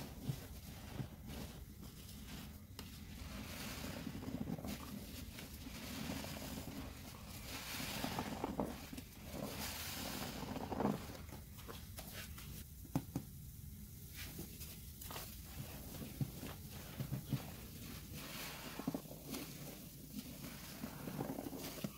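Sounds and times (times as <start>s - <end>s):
sponges squelching in suds: 0.0s - 12.7s, 14.1s - 21.9s
settling foam popping: 0.0s - 13.3s, 14.1s - 21.9s.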